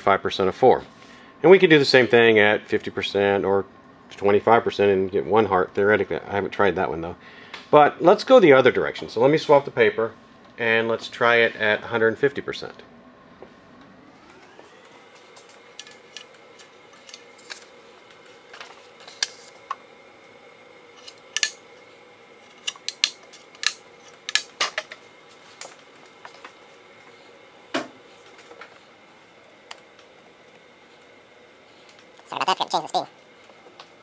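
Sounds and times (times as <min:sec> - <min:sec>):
faint motor whine: 0:00.0 - 0:34.0.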